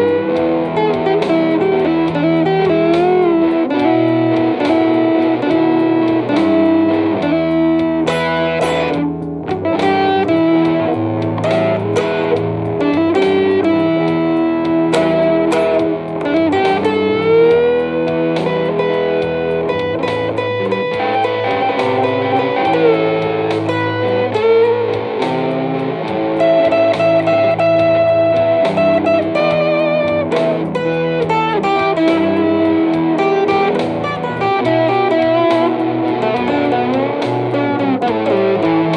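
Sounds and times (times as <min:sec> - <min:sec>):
electric blues guitar: 0:00.0 - 0:38.9.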